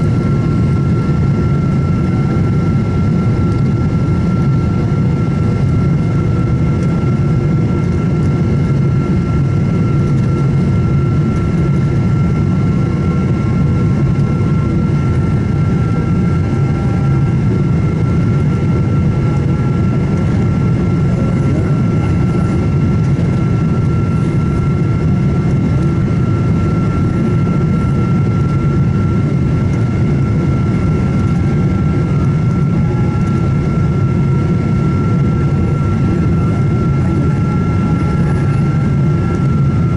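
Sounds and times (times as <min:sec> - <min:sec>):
constant high whine: 0:00.0 - 0:39.9
engine and airflow rumble: 0:00.0 - 0:39.9.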